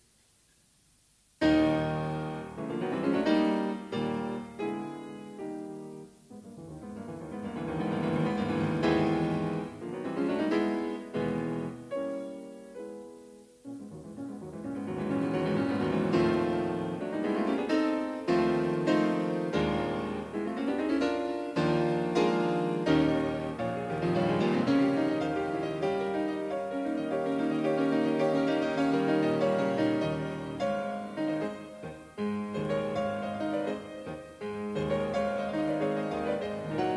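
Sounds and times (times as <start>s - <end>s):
piano music: 1.4s - 36.9s.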